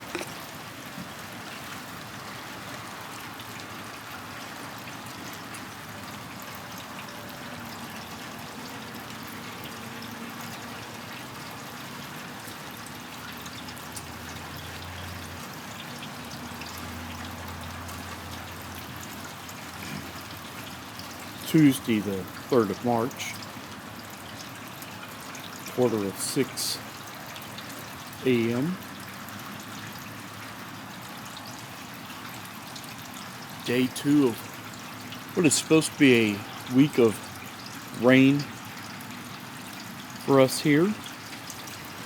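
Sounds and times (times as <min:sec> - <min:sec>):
drips and patters: 0:00.0 - 0:42.0
rain falling: 0:00.0 - 0:42.0.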